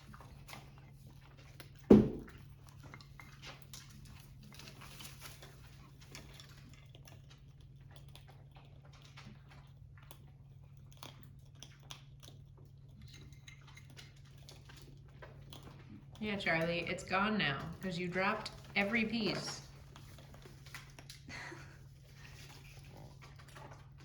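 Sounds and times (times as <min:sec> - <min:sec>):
parrots crunching with beaks: 0:00.0 - 0:24.0.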